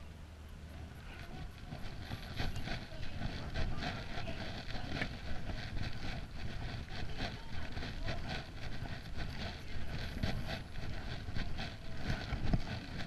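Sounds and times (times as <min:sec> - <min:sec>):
wind rumbling on microphone: 0:00.6 - 0:13.0.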